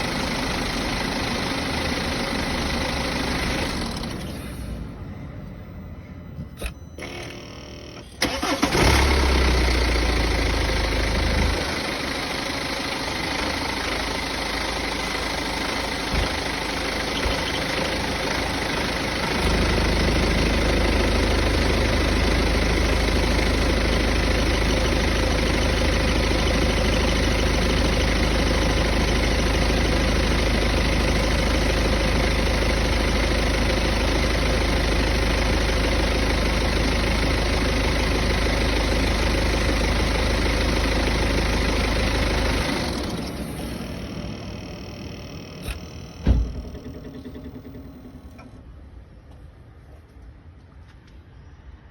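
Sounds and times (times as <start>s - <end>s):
vehicle engine idling: 0.0s - 49.9s.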